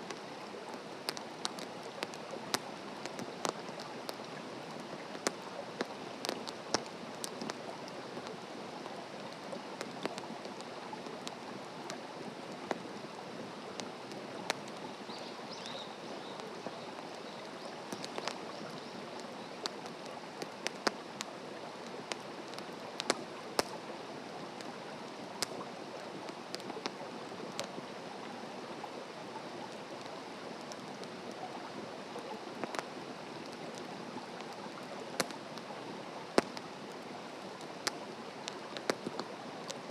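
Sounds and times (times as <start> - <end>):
campfire crackling and popping: 0.0 - 28.2, 28.9 - 39.9.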